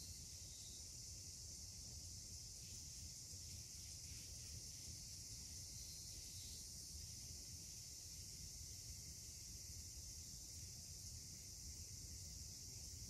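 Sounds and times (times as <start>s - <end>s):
high-pitched insect drone: 0.0s - 13.0s
low rumble of outdoor air: 0.0s - 13.0s.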